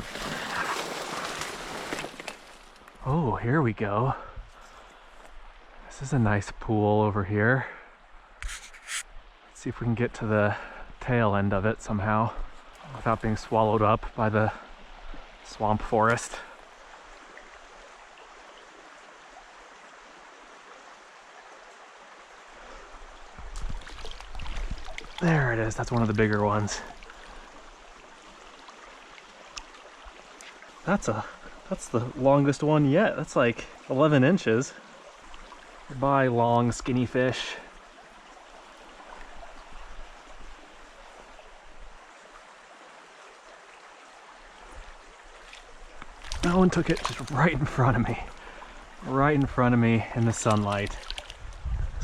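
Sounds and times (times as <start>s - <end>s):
creek running over stones: 0.0s - 52.0s.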